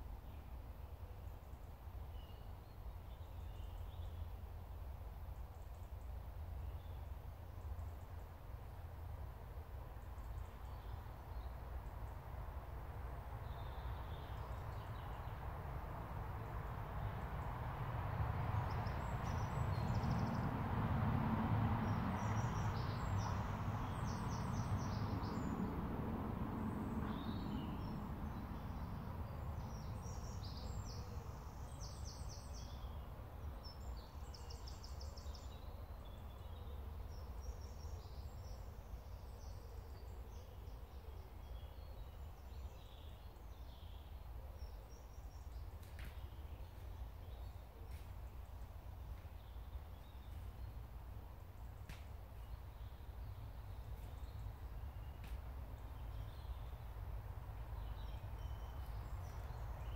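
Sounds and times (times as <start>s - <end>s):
wind in the woods: 0.0s - 59.9s
songbirds chirping and trilling: 0.1s - 59.9s.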